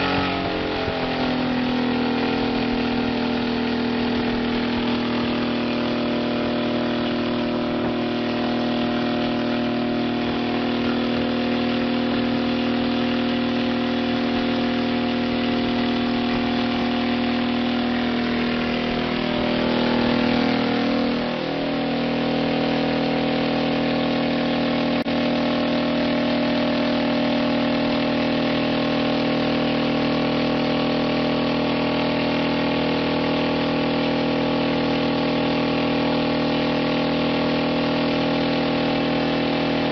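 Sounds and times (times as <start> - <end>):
helicopter engine running: 0.0 - 39.9.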